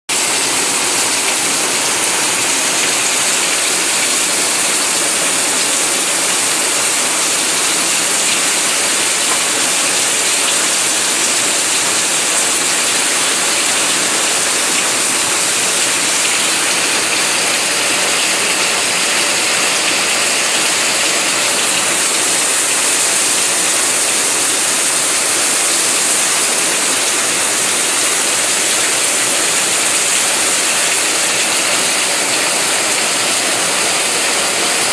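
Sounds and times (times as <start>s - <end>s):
rain falling steadily: 0.1s - 34.9s.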